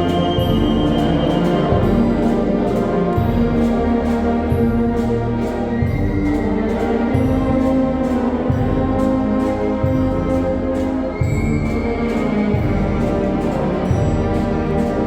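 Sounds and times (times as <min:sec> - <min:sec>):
brass chords: 0:00.0 - 0:15.0
percussion strokes: 0:00.0 - 0:15.0.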